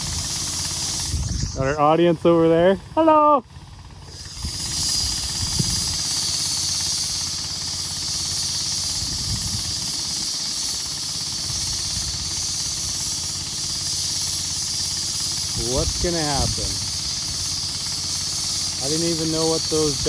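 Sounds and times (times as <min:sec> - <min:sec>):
air compressor engine running: 0:00.0 - 0:20.0
compressed air hissing into tire: 0:00.0 - 0:20.0.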